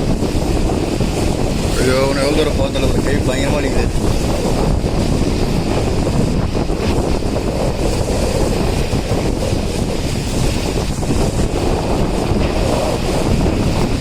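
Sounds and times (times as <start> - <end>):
train rumbling: 0.0 - 14.0
wind rushing over microphone: 0.0 - 14.0.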